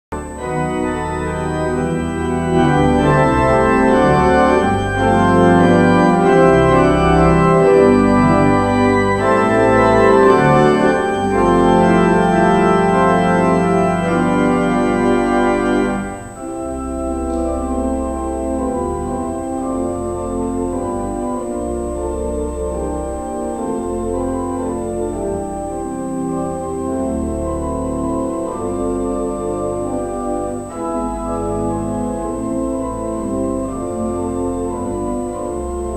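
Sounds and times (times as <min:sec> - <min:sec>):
pipe organ chords: 0:00.1 - 0:35.9.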